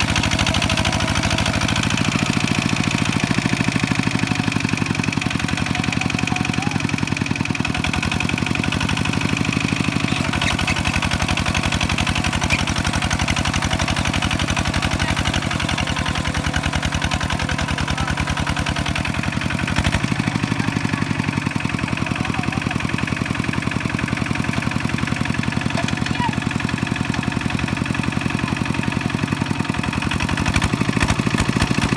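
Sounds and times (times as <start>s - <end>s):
diesel engine chugging: 0.0s - 31.9s.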